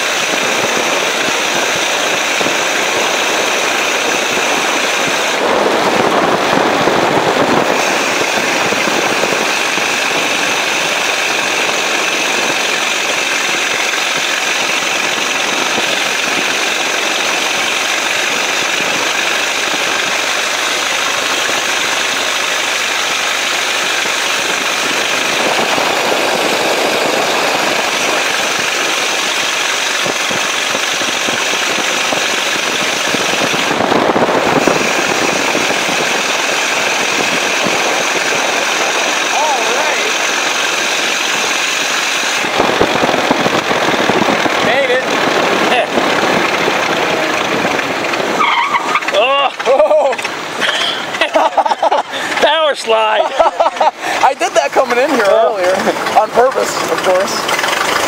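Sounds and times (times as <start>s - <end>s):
car engine running: 0.0s - 58.0s
rattles: 0.0s - 58.0s
tyres on wet pavement: 0.0s - 58.0s
wind: 0.0s - 58.0s.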